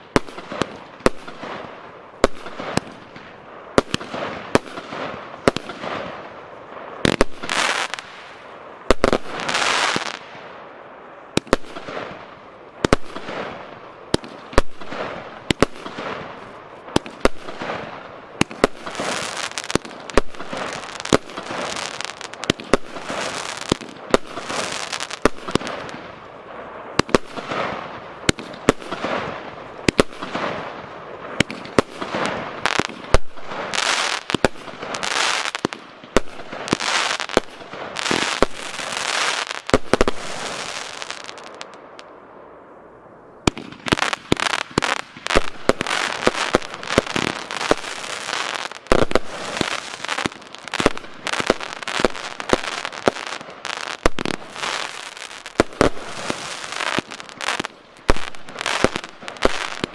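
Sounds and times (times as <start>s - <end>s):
firework bangs: 0.0s - 10.5s, 11.3s - 42.1s, 43.4s - 59.9s
hiss and crackle of stars: 0.0s - 59.9s.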